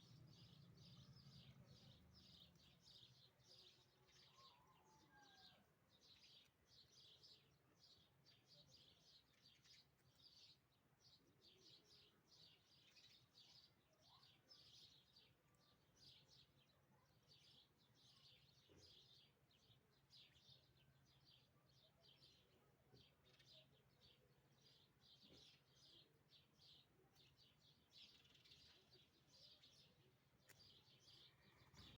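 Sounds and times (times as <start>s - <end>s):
faint high bird chirping: 0.0s - 32.0s.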